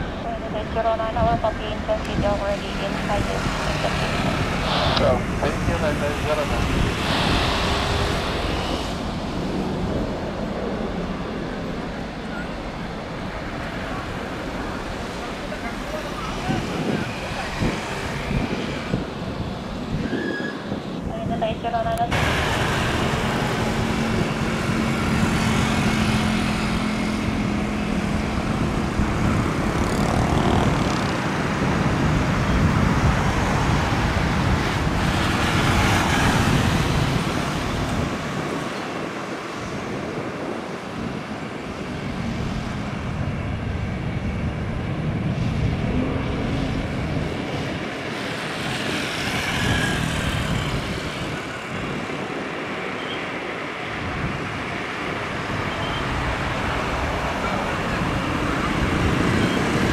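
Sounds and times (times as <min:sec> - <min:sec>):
jet engines running: 0:00.0 - 0:20.0, 0:20.7 - 0:59.9.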